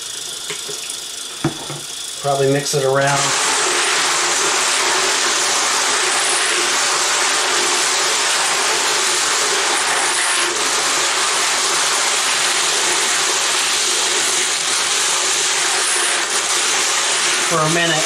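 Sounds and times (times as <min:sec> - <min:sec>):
faucet water running into tub: 0:00.0 - 0:18.0.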